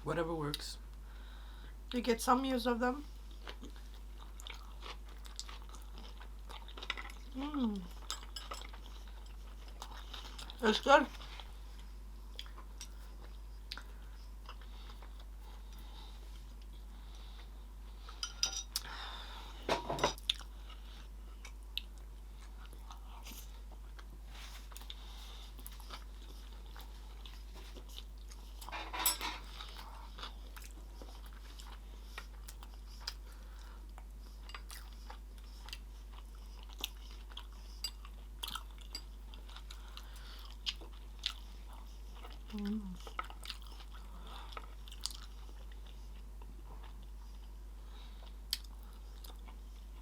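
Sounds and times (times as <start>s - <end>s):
chewing with soft crunching: 3.0s - 50.0s.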